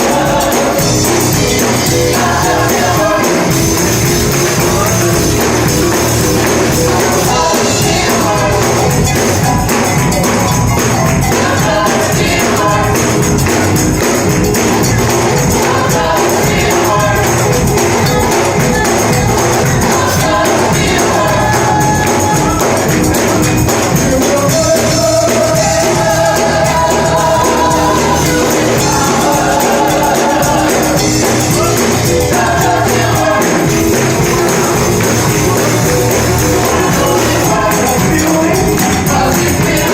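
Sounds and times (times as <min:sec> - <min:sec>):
tambourine shaking: 0:00.0 - 0:39.9
voices singing gospel music: 0:00.0 - 0:39.9.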